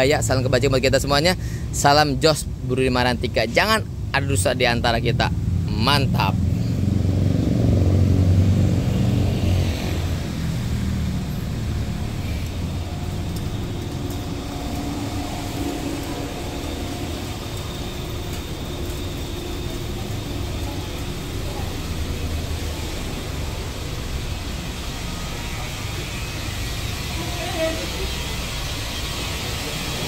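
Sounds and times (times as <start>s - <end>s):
car engine humming: 0.0s - 30.0s.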